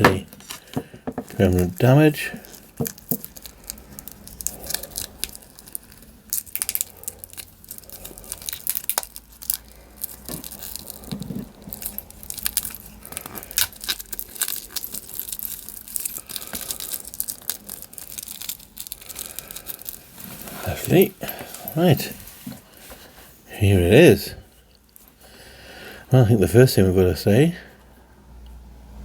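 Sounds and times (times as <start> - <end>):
wrapping crinkling and tearing: 0.2 - 23.4.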